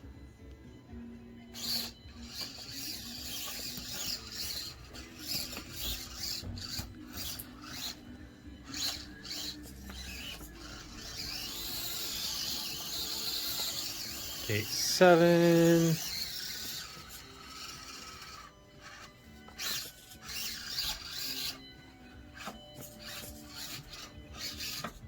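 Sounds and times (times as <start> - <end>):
small electric motor whining: 0.9 - 25.0.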